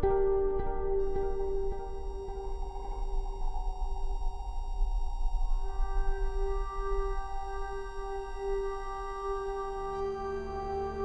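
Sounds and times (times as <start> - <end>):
sustained ringing tone: 0.9 - 11.0.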